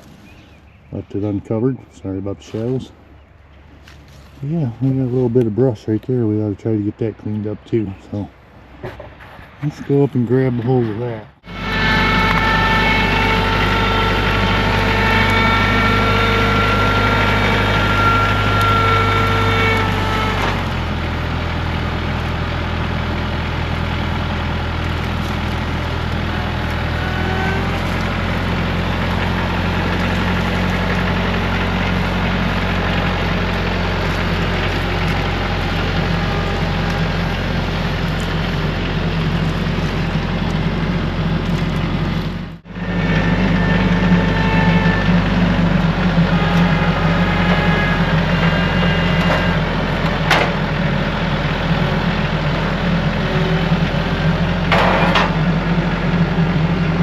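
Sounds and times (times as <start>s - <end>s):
tractor engine running: 0.0s - 57.0s
whine: 9.6s - 57.0s.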